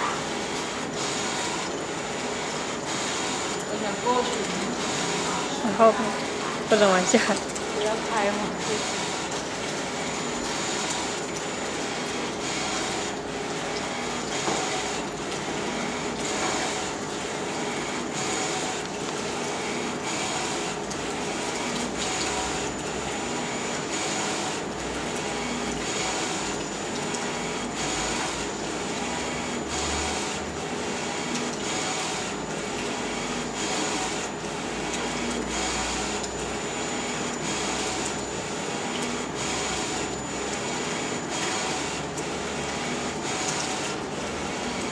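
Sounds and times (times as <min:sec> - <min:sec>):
printer whirring: 0:00.0 - 0:44.9.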